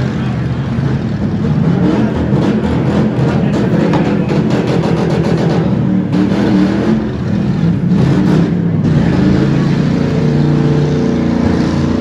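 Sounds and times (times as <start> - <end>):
car engines revving unevenly: 0.0 - 12.0.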